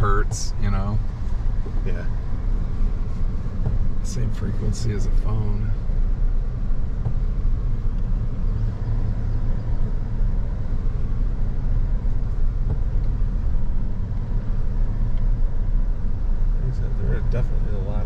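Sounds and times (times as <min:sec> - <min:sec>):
pickup truck engine rumble: 0:00.0 - 0:18.0.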